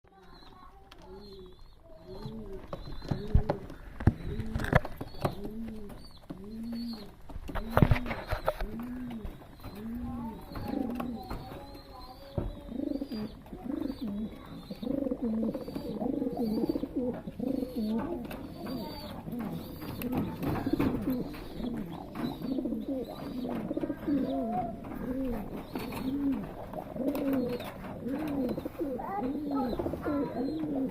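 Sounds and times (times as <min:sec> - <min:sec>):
pigeons cooing: 0:01.0 - 0:30.9.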